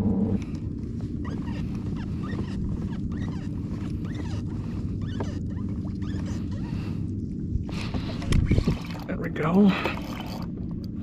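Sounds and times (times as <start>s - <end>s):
steady low hum: 0.0s - 11.0s
water lapping against kayak hull: 0.4s - 11.0s.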